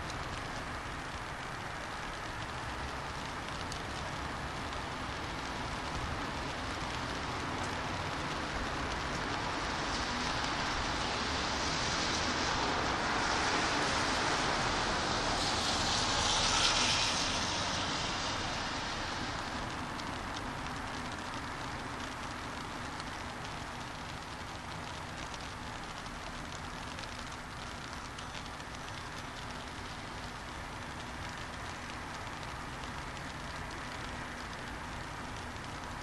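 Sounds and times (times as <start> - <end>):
car tyres hissing on wet road: 0.0 - 36.0
rain falling on street: 0.0 - 36.0.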